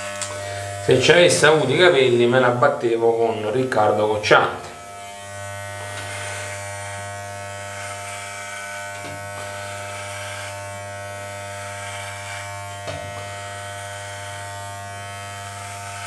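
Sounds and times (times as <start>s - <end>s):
hair clipper buzzing: 0.0s - 16.0s.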